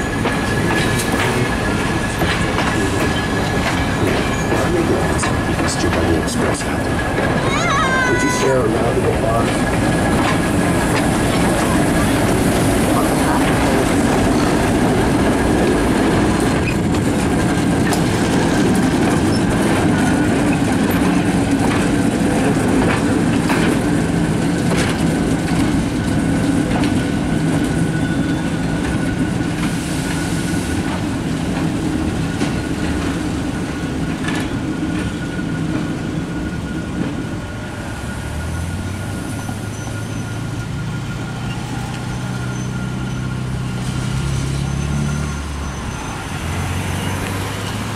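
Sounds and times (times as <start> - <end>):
locomotive engine running: 0.0 - 47.9
road vehicle engine hum: 0.0 - 47.9
wheels clicking over rail joints: 0.0 - 47.9.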